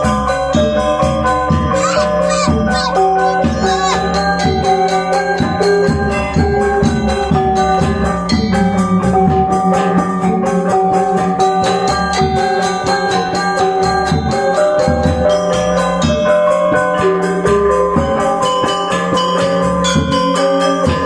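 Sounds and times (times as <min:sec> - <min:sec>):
gamelan metallophones ringing: 0:00.0 - 0:21.0.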